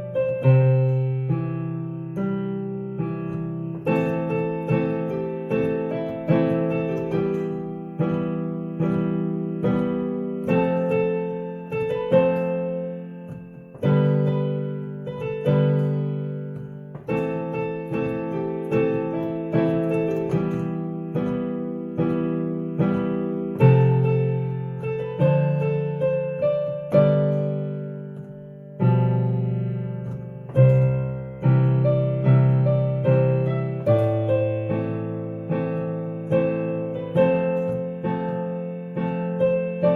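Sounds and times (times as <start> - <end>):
piano chords: 0.0 - 39.9.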